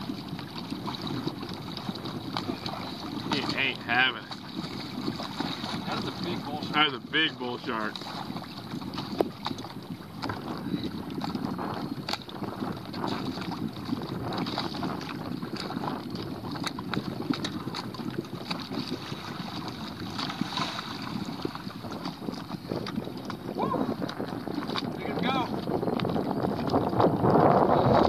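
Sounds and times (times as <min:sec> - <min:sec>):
water sloshing around kayak: 0:00.0 - 0:28.0
wind buffeting microphone: 0:00.0 - 0:28.0.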